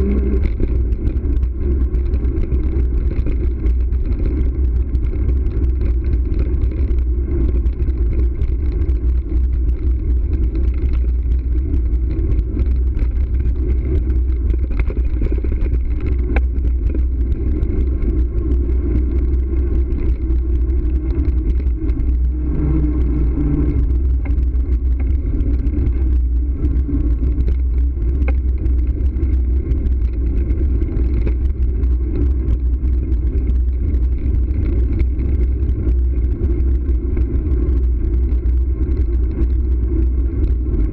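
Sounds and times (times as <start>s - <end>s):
bicycle tyres rolling over bricks: 0.0s - 40.9s
wind rumbling on microphone: 0.0s - 40.9s.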